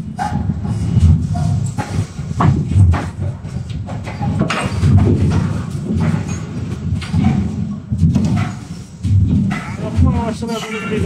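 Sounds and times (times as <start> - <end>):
machinery rumble: 0.0 - 11.0
metal knocks: 0.1 - 11.0.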